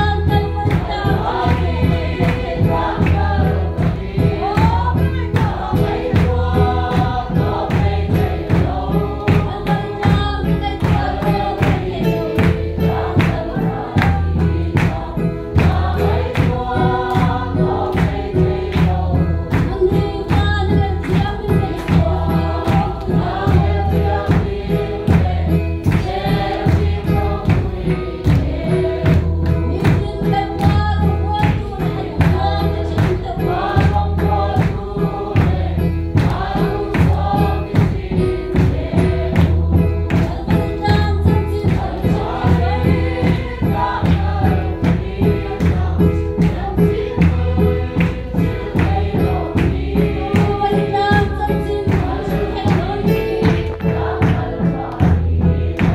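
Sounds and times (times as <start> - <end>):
congregation singing a hymn: 0.0 - 55.9
keyboard accompaniment: 0.0 - 55.9
hand clapping: 0.2 - 55.9.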